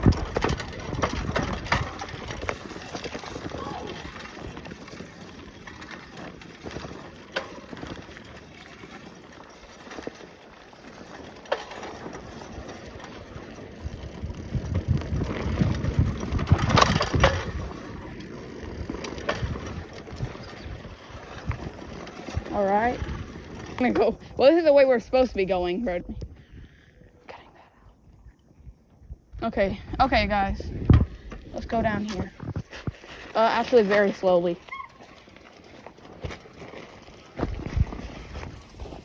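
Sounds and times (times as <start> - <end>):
bike rattling: 0.0 - 27.2, 28.1 - 39.0
bicycle tyres crunching on dirt: 0.0 - 39.0.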